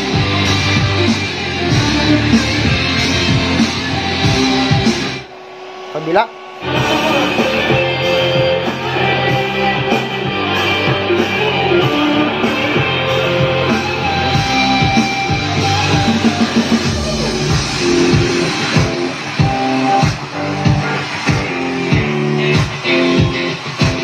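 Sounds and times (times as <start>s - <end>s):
guitar rock music through speakers: 0.0s - 24.0s.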